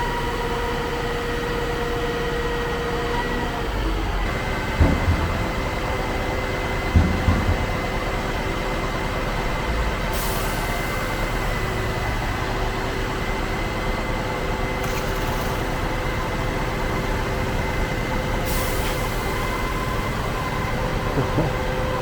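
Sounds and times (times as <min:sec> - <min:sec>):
concrete pump truck running: 0:00.0 - 0:22.0.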